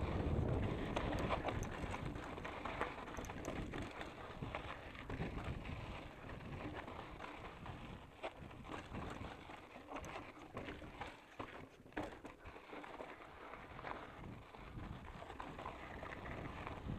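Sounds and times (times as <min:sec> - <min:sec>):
wind on microphone: 0:00.0 - 0:10.7, 0:13.6 - 0:16.9
bike clattering and rattling: 0:00.0 - 0:16.9
bike tyres crunching on gravel: 0:00.0 - 0:16.9.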